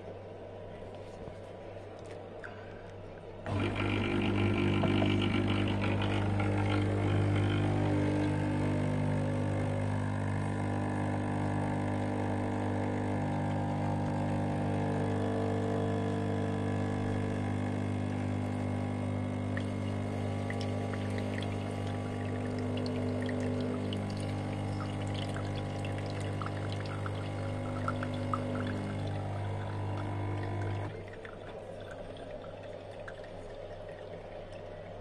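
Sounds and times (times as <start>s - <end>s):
coffee dripping into mug: 3.5s - 35.0s
espresso machine pump humming: 3.5s - 35.0s.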